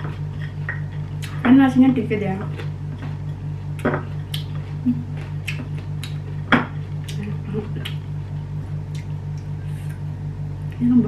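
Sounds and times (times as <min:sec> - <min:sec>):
low hum: 0:00.0 - 0:11.0
wet chewing and mouth smacks: 0:00.1 - 0:01.4, 0:02.5 - 0:10.1.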